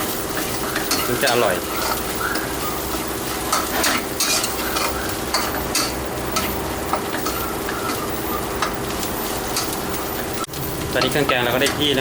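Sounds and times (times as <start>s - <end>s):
curry paste sizzling in oil: 0.0s - 12.0s
scraping strokes in pan: 0.3s - 10.5s.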